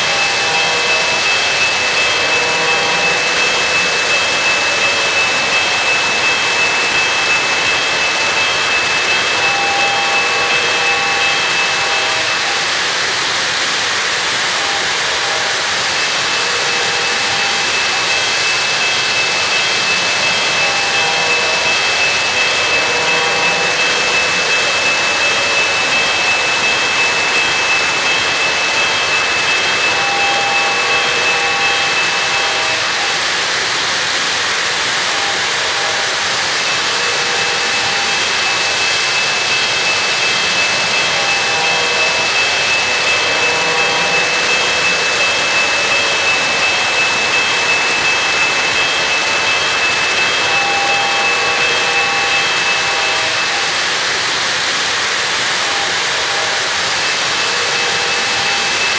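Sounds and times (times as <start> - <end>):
model train wheels rolling on rail: 0.0 - 58.9
thin high whine: 0.0 - 58.9.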